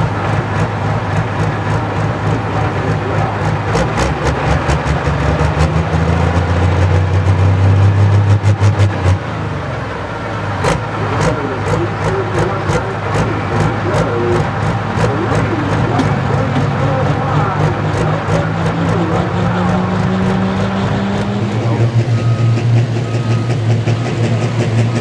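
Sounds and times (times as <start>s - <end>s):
diesel engine revving: 0.0s - 25.0s.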